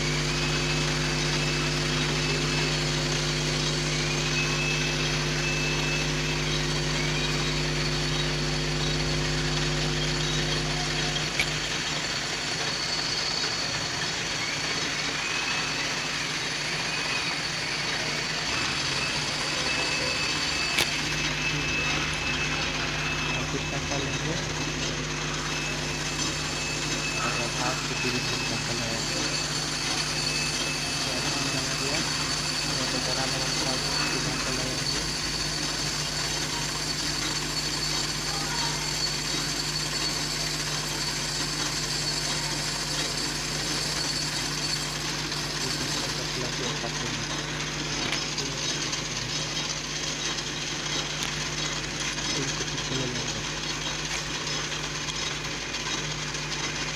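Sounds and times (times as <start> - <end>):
lathe motor hum and whir: 0.0 - 56.9
thin high whine: 0.0 - 56.9.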